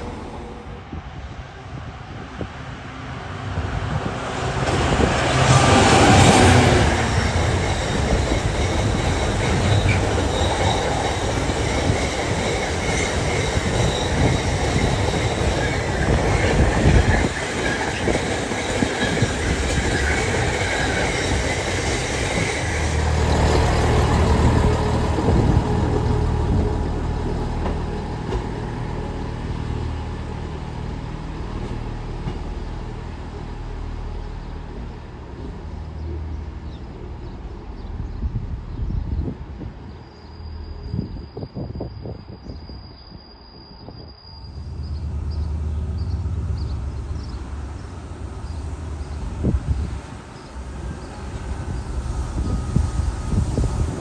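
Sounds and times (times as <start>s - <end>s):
diesel locomotive engine passing: 0.0s - 42.4s, 44.3s - 54.0s.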